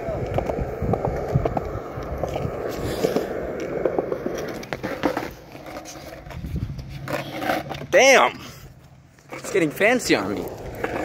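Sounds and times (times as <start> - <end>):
skateboard wheels rolling on concrete: 0.0 - 11.0.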